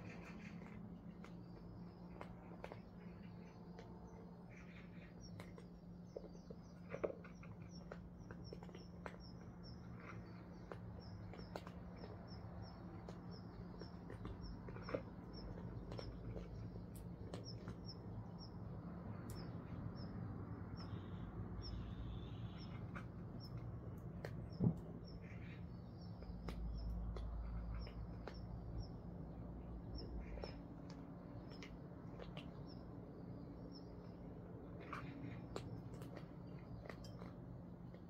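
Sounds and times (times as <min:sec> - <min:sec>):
cats eating crunchily: 0:00.0 - 0:38.0
small bird chirping: 0:00.0 - 0:38.0.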